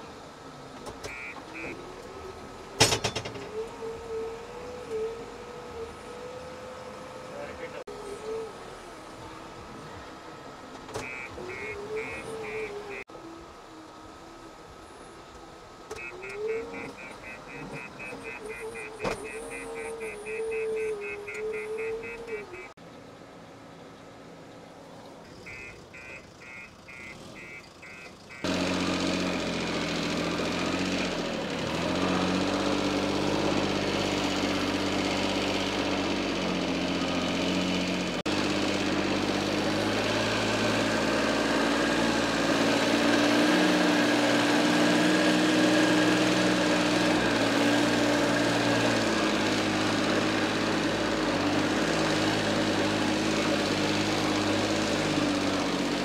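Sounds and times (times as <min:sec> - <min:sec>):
heavy diesel engine running: 0:00.0 - 0:03.7, 0:07.4 - 0:13.0, 0:16.0 - 0:22.7, 0:25.4 - 0:56.0.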